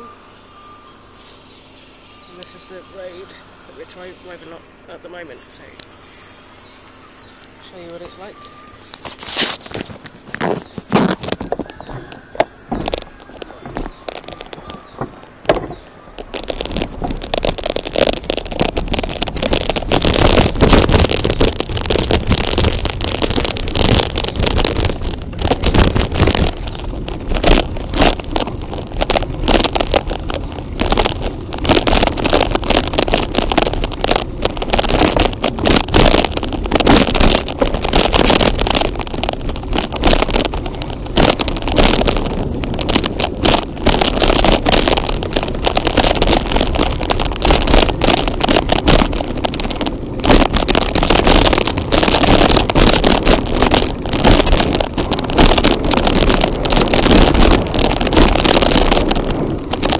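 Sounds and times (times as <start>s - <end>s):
vehicle driving on dirt track: 0.0s - 59.9s.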